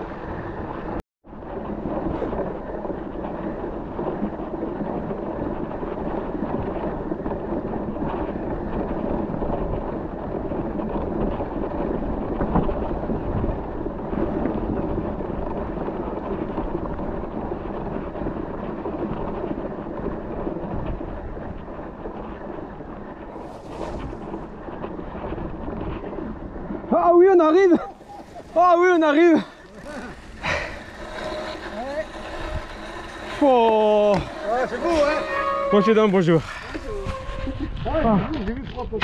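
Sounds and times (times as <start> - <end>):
mountain bike rumbling over trail: 0.0 - 39.0
bike jolt: 1.5 - 39.0.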